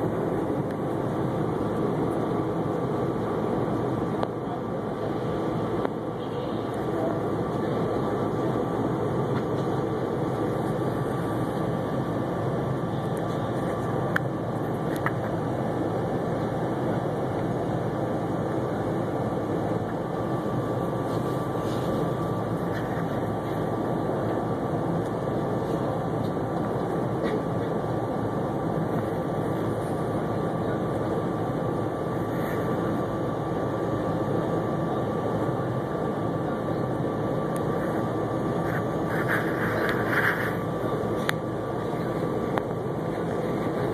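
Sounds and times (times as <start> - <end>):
train rumble from inside car: 0.0 - 33.4, 35.0 - 43.9
faint high hum: 0.0 - 43.9.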